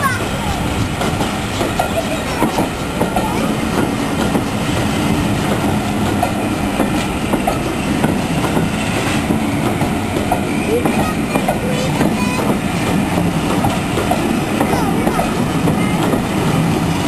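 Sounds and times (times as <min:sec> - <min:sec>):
train wheels clattering over rails: 0:00.0 - 0:17.0.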